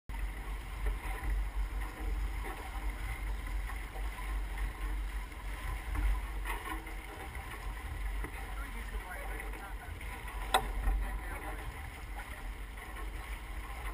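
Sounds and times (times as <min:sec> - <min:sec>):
water rushing along hull: 0:00.1 - 0:13.9.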